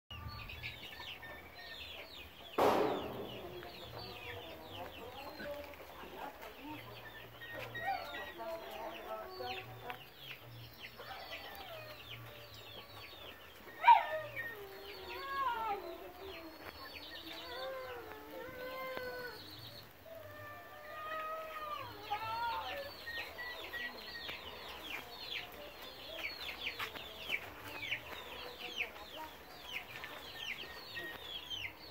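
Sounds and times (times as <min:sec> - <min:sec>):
small birds chirping: 0:00.1 - 0:31.9
chickens clucking: 0:00.2 - 0:31.9.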